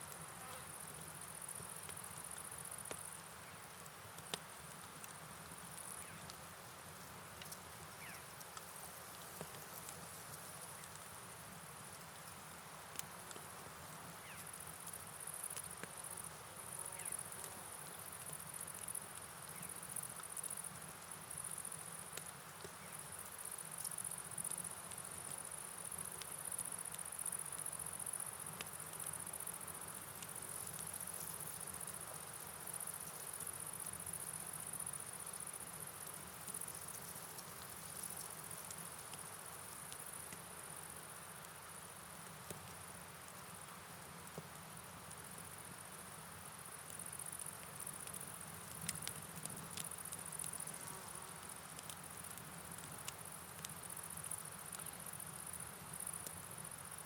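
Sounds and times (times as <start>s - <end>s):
falling rain hiss: 0.0s - 57.0s
light drip ticks: 1.5s - 3.2s, 3.8s - 6.5s, 7.4s - 11.1s, 11.8s - 13.5s, 14.2s - 16.3s, 17.0s - 44.7s, 46.7s - 57.0s.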